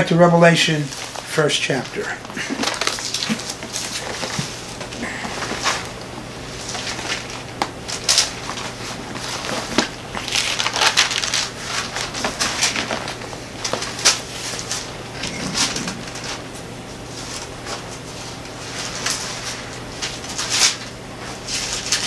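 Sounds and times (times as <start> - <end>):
pages rustling: 0.8 - 22.0.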